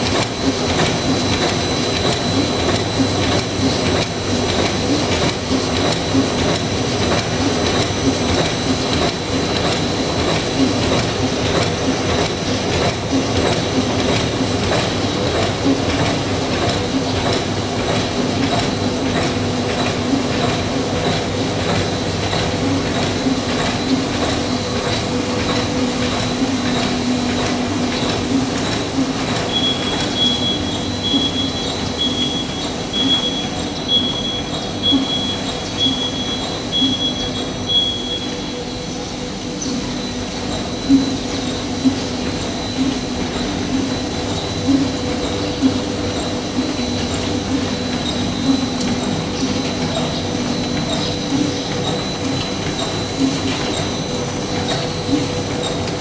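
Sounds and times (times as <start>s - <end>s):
machine humming and clattering: 0.0s - 56.0s.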